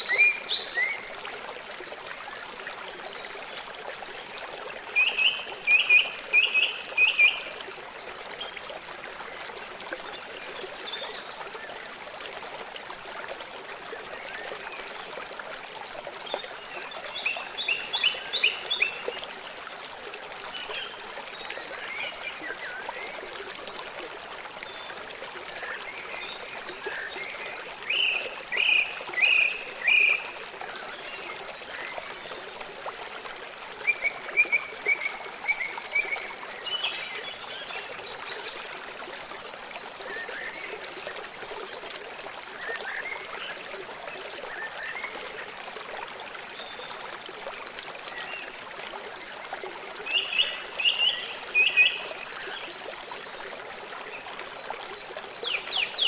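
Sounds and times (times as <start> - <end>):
stream running: 0.0 - 56.0.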